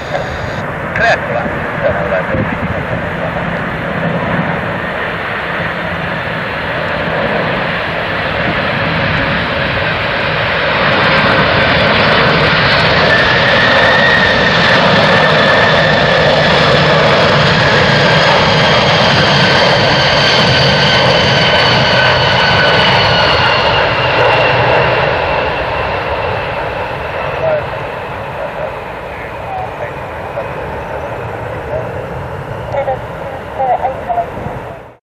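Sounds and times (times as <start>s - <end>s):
jet airliner passing: 0.0s - 35.0s.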